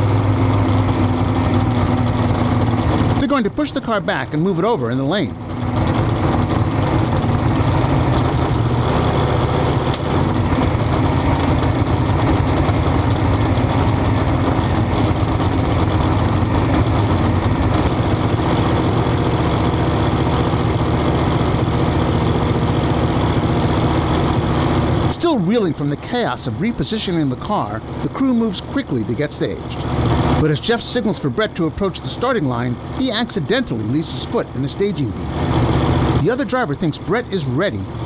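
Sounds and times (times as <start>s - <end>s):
race car engine idling: 0.0s - 38.0s.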